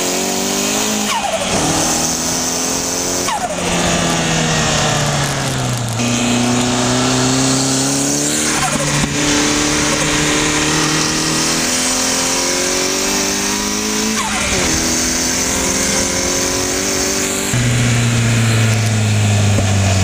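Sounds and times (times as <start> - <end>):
car engine revving under full throttle: 0.0 - 20.0.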